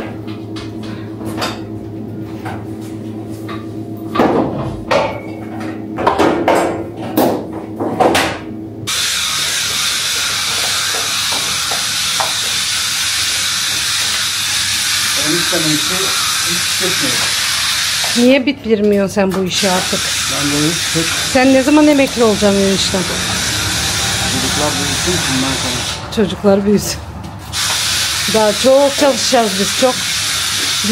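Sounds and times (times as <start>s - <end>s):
kitchen appliances humming: 0.0s - 30.9s.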